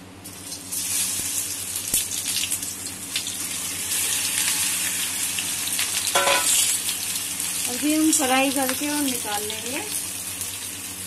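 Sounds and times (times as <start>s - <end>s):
food sizzling in hot oil: 0.2s - 11.0s.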